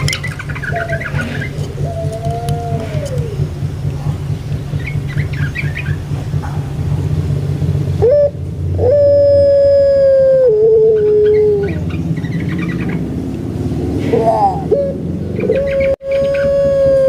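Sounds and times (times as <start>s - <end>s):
dove call: 0.0s - 7.1s, 8.0s - 13.2s, 14.0s - 17.0s.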